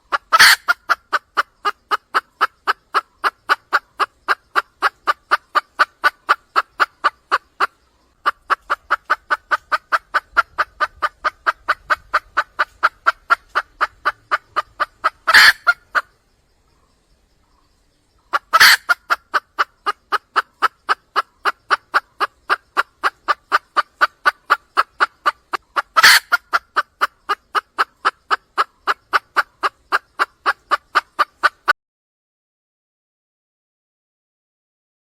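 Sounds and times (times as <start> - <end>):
hen clucking: 0.0 - 16.8, 18.1 - 31.8.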